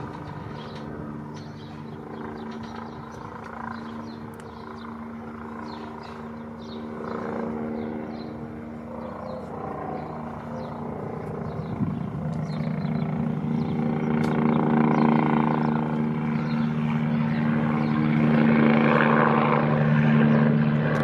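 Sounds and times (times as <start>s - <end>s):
helicopter flying overhead: 0.0s - 21.0s.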